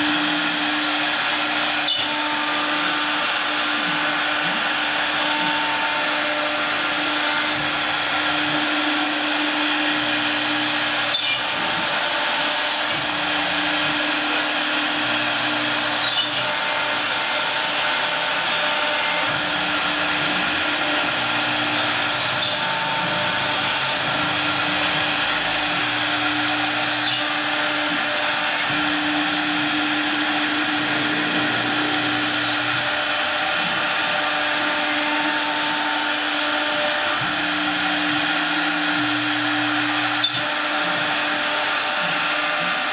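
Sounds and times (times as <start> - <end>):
wood router high whine: 0.0 - 42.9
lower machine hum: 6.6 - 41.2.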